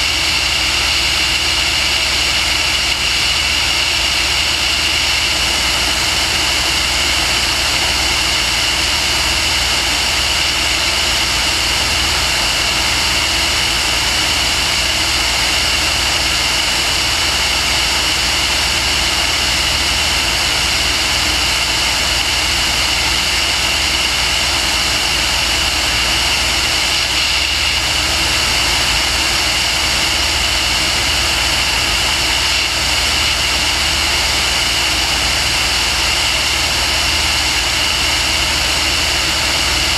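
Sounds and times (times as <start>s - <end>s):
small aircraft engine drone: 0.0s - 39.9s.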